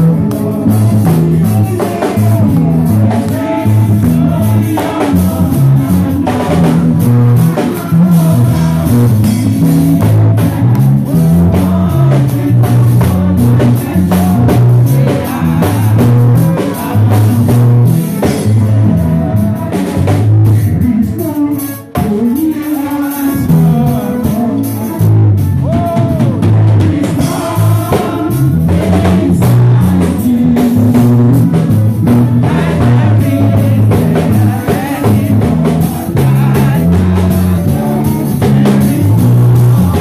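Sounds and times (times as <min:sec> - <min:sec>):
conga drums: 0:00.0 - 0:40.0
drum kit: 0:00.0 - 0:40.0
keyboard with bass line: 0:00.0 - 0:40.0
man singing into microphone: 0:00.0 - 0:40.0.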